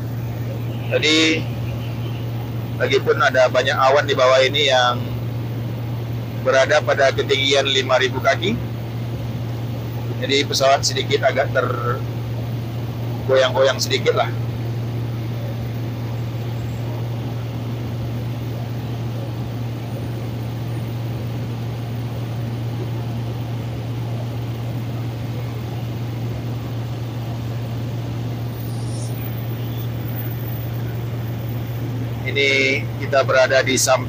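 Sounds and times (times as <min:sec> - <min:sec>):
small plane engine droning: 0:00.0 - 0:34.0.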